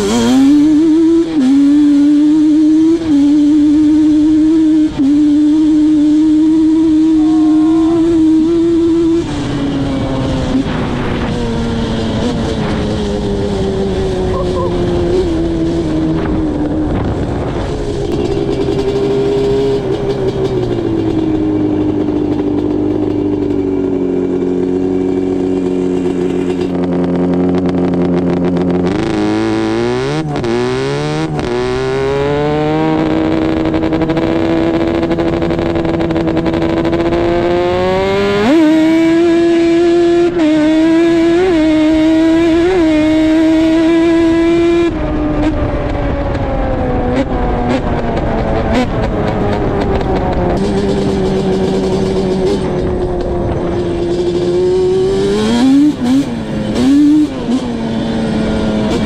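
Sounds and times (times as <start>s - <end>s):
two-stroke quad engine revving: 0.0s - 59.0s.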